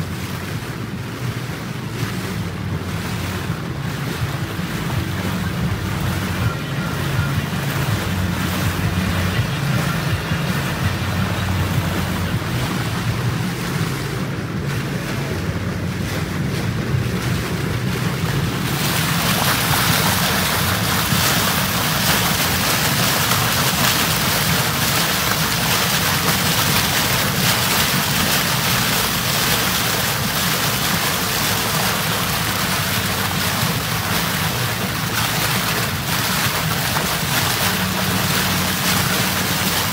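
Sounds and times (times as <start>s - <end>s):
churning wake water: 0.0s - 39.9s
motorboat engine drone: 0.0s - 39.9s
wind buffeting microphone: 0.0s - 39.9s.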